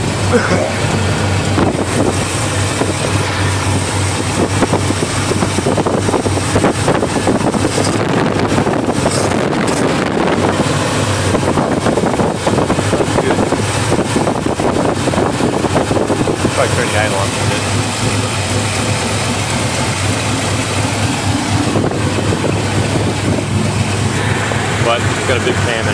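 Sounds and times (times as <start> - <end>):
truck engine idling: 0.0 - 25.9.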